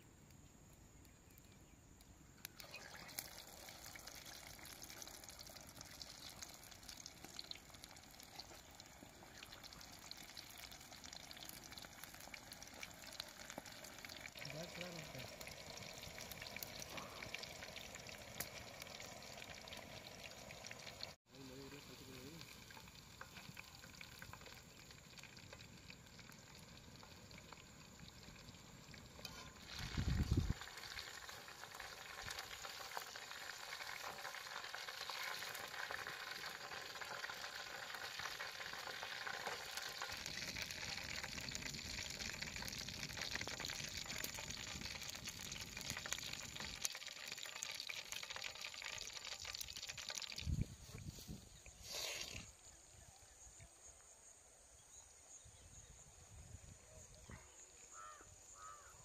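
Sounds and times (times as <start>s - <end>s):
food sizzling in hot oil: 2.4s - 52.9s.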